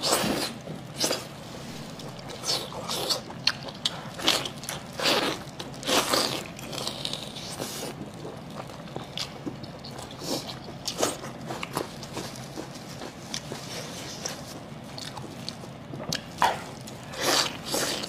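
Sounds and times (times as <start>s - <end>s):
wet chewing and slurping: 0.0s - 18.0s.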